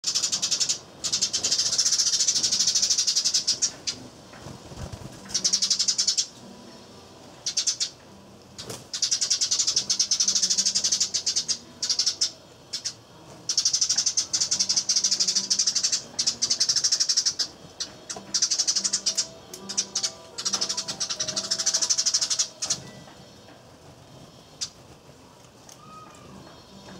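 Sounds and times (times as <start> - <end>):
sparrows chirping: 0.0 - 26.9.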